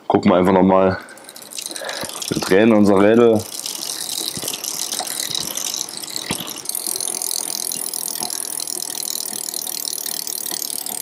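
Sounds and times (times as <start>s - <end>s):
bicycle wheel spinning: 1.0s - 11.0s
freewheel ratchet clicking rapidly: 1.0s - 11.0s.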